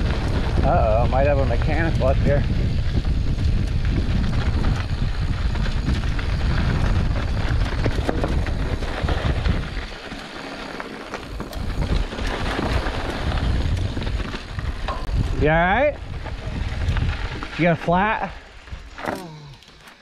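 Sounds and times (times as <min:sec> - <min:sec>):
wind buffeting microphone: 0:00.0 - 0:10.1, 0:11.1 - 0:19.0
bike clicks and rattles: 0:00.0 - 0:20.0.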